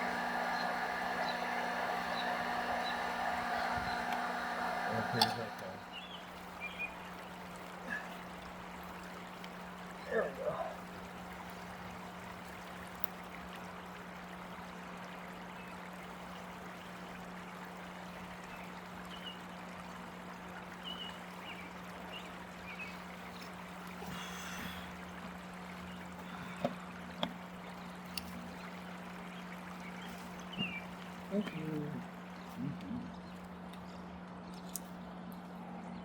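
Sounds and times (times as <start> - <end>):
water trickling and splashing: 5.8 - 34.9.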